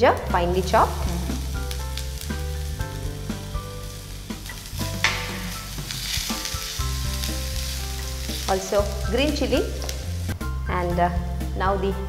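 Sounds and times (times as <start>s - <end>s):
ginger and chili sizzling: 0.0s - 11.6s.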